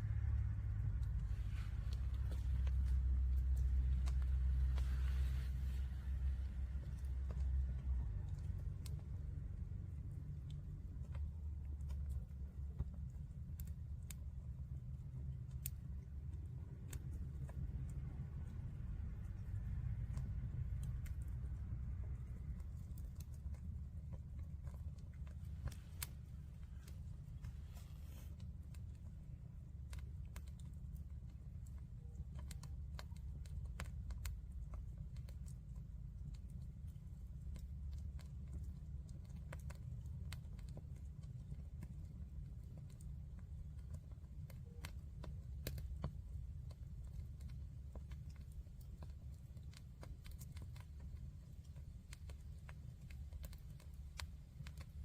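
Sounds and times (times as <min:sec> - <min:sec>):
bonfire crackling and popping: 0:00.1 - 0:55.0.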